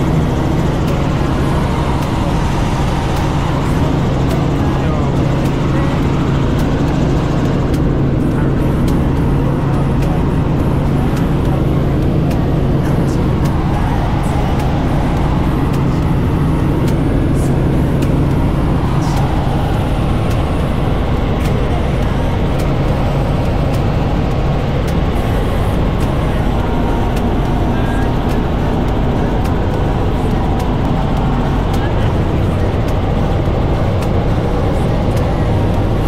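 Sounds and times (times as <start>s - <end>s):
helicopter engine and rotor noise: 0.0s - 36.0s
wind and airframe noise: 0.0s - 36.0s.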